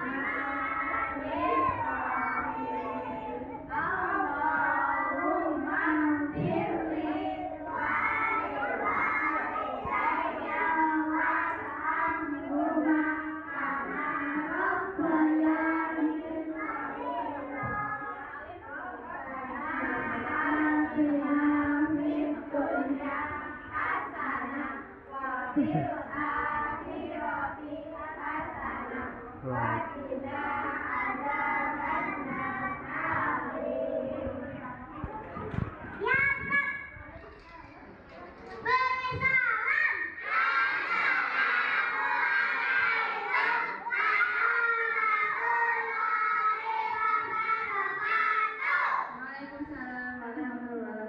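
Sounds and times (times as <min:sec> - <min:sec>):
children singing in unison: 0:00.0 - 0:37.0, 0:39.0 - 0:49.2.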